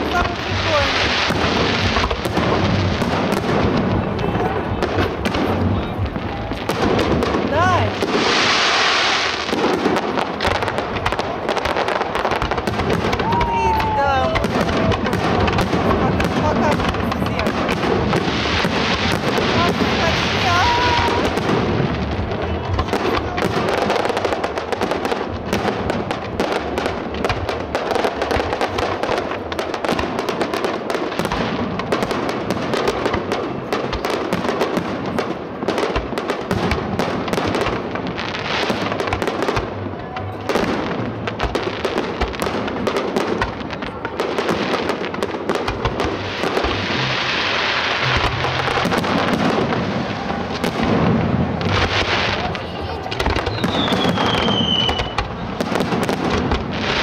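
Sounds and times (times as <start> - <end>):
fireworks bangs and crackles: 0.0 - 57.0
fireworks hissing: 0.0 - 57.0.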